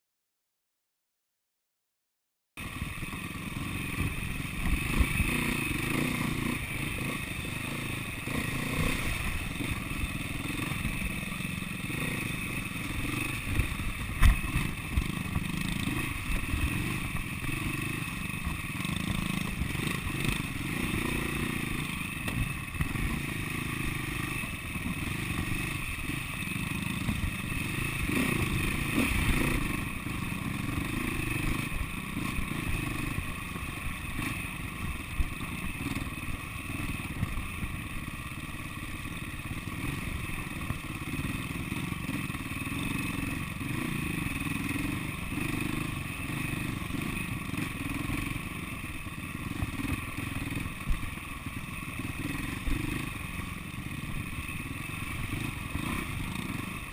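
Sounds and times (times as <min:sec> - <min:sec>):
motorcycle engine revving: 0:02.6 - 0:56.9
motorcycle rattling over rough ground: 0:02.6 - 0:56.9.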